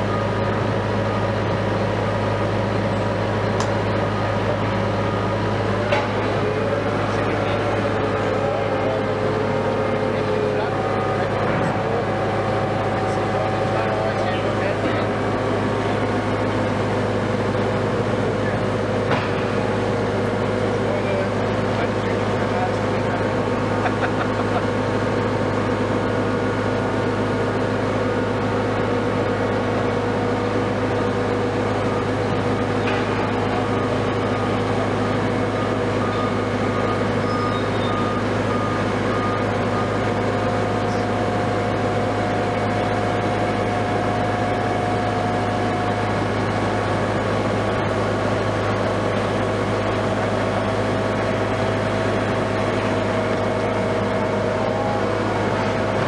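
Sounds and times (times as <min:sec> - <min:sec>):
crane diesel engine humming: 0:00.0 - 0:56.0
steady whining tones: 0:00.0 - 0:56.0.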